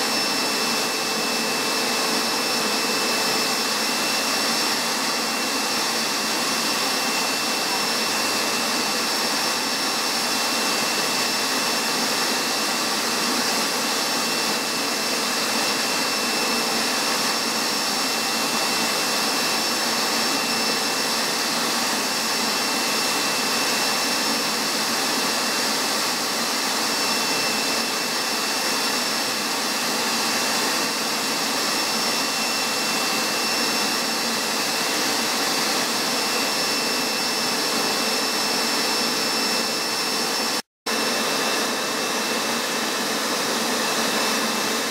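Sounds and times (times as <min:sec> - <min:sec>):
carpet extractor running: 0:00.0 - 0:44.9.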